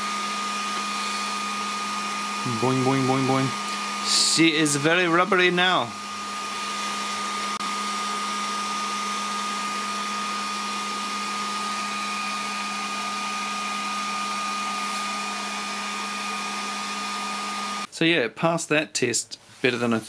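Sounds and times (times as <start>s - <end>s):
fan motor whine: 0.0s - 17.9s
heat gun blowing air: 0.0s - 17.9s.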